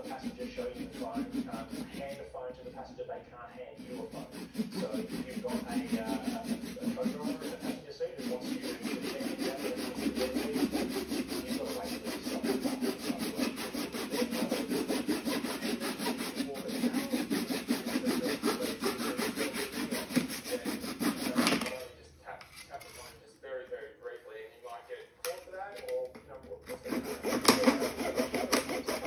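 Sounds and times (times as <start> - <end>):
metal file rasping on plastic: 0.0 - 2.8, 3.6 - 23.2, 25.3 - 29.0.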